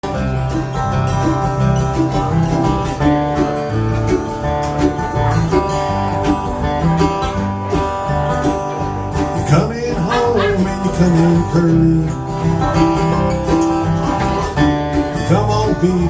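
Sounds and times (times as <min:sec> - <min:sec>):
acoustic guitar strummed and picked: 0:00.0 - 0:16.0
stepping bass line: 0:00.1 - 0:16.0.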